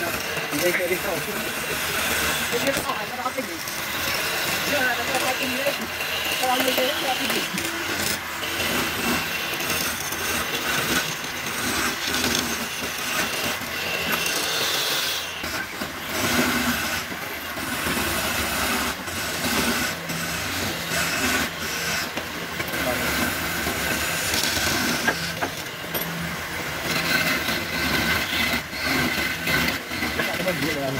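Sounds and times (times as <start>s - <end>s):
tool cutting spinning wood: 0.0s - 30.9s
wood lathe running: 0.0s - 30.9s.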